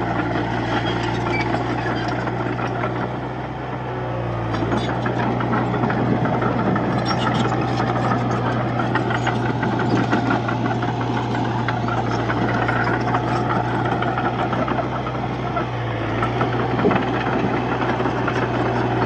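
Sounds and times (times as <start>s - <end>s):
bulldozer diesel engine under load: 0.0s - 19.0s.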